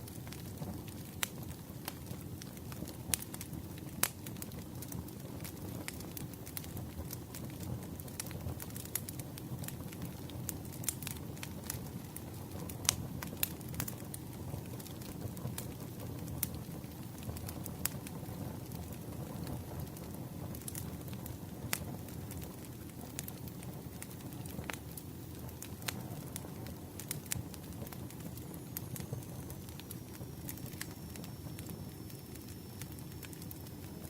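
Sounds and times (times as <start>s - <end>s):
burning wood crackling and popping: 0.0s - 34.0s
campfire rumble: 0.0s - 34.0s.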